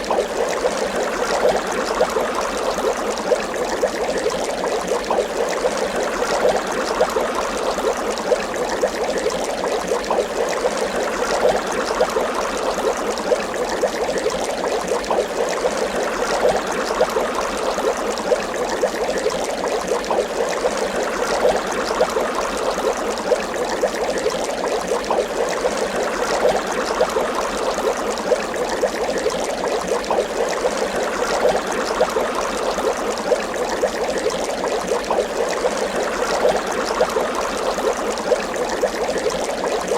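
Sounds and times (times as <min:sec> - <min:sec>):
water bubbling and gurgling: 0:00.0 - 0:39.9.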